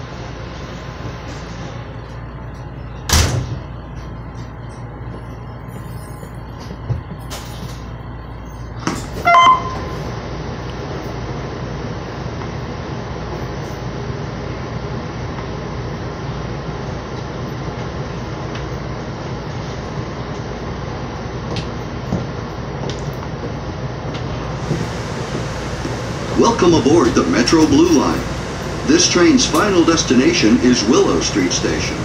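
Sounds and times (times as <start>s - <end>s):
train car hum and rumble: 0.0s - 32.0s.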